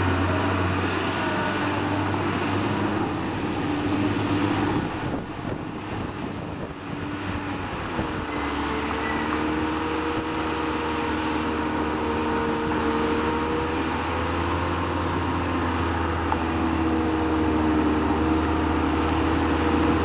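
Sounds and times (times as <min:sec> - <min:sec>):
bulldozer diesel engine under load: 0:00.0 - 0:20.0.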